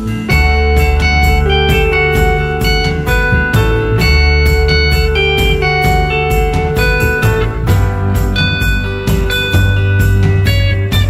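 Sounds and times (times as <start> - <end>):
instrumental music with low bass: 0.0 - 11.0.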